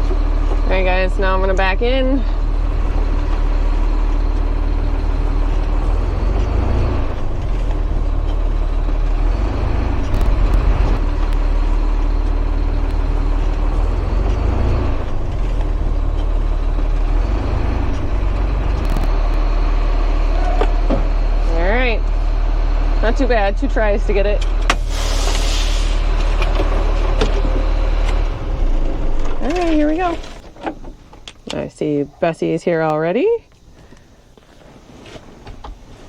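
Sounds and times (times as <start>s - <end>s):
truck engine running: 0.0s - 33.3s.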